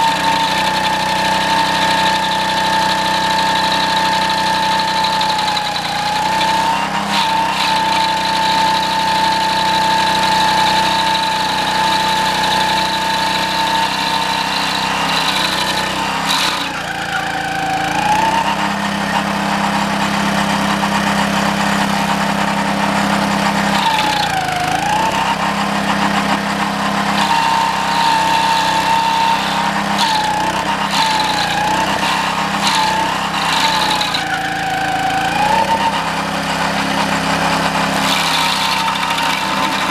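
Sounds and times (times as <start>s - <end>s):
cutting wheel grinding stump: 0.0s - 39.9s
stump grinder engine running: 0.0s - 39.9s.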